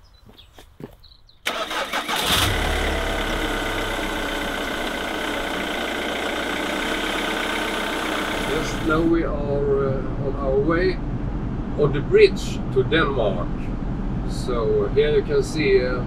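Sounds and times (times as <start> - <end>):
diesel engine cranking and idling: 1.4 - 16.0.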